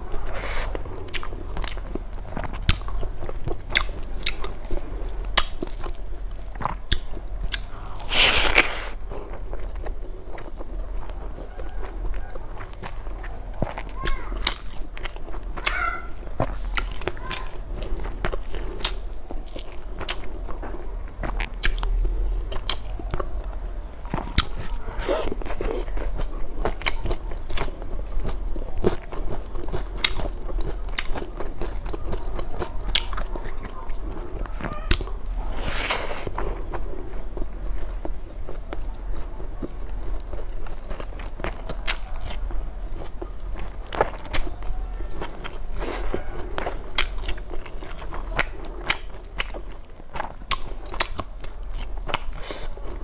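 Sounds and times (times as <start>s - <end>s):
chewing and mouth smacks: 0.1s - 53.0s.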